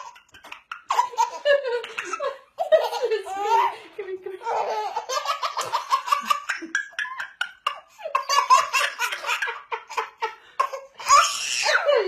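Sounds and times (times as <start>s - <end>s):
baby laughing: 0.0s - 12.0s.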